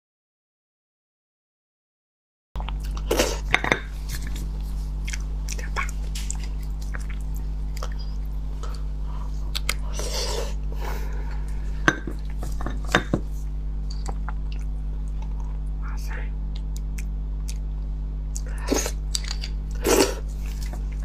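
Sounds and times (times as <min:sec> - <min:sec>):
low hum: 0:02.6 - 0:21.0.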